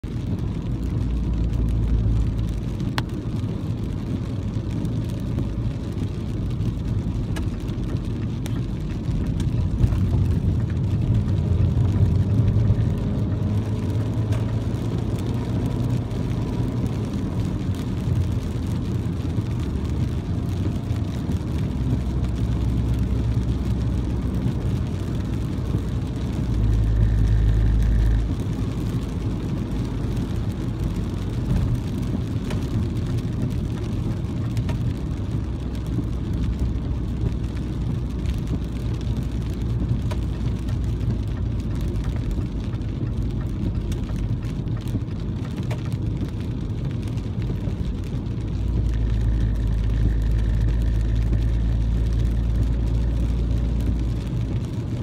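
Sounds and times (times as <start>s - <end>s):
car driving on wet road: 0.0s - 55.0s.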